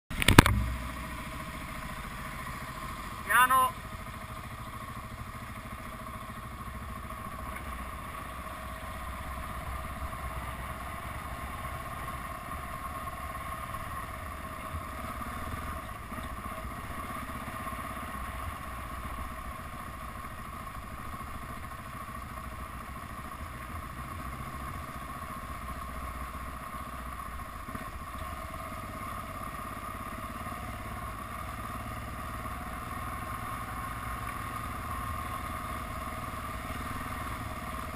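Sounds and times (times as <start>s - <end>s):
motorcycle engine running: 0.1s - 37.9s
road and wind noise: 0.1s - 37.9s.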